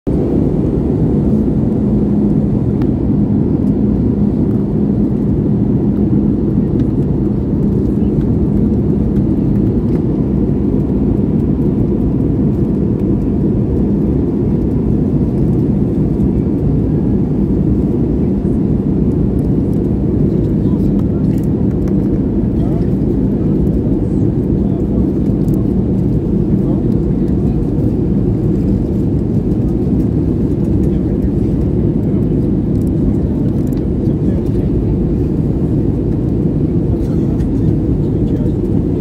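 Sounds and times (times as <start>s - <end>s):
aircraft cabin engine rumble: 0.1s - 39.0s.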